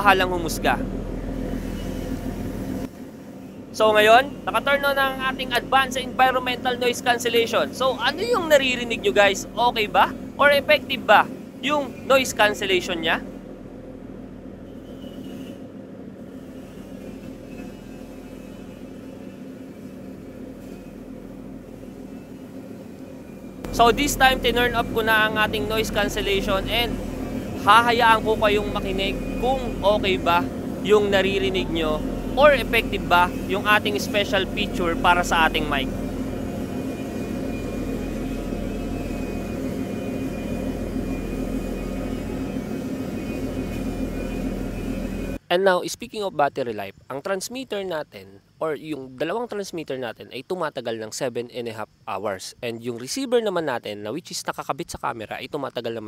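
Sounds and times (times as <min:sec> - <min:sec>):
ferry engine drone: 0:00.0 - 0:45.4
faint high whine: 0:00.0 - 0:56.0.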